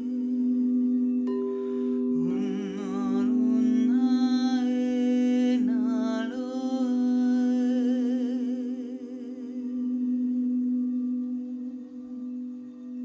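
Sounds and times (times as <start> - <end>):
person humming and singing: 0.0 - 13.0
singing bowls drone: 0.0 - 13.0.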